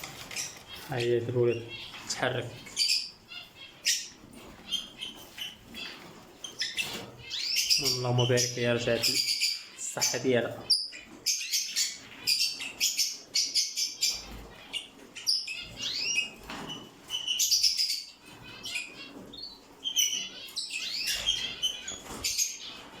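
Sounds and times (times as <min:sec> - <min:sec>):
lovebirds chirping and chattering: 0:00.0 - 0:23.0.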